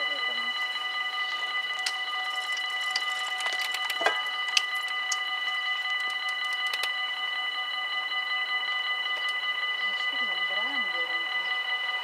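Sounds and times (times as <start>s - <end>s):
level-crossing warning bells ringing: 0.0s - 12.0s.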